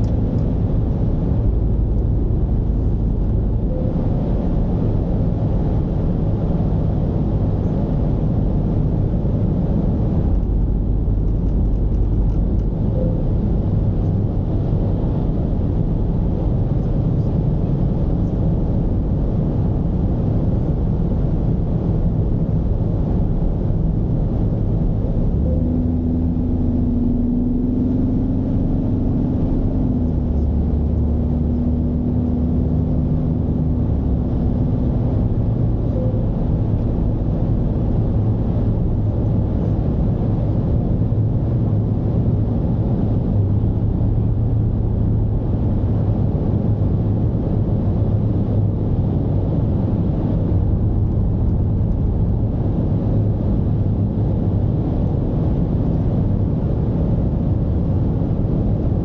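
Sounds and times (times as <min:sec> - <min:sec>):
diesel engine droning: 0:00.0 - 0:59.0
road rumble: 0:00.0 - 0:59.0.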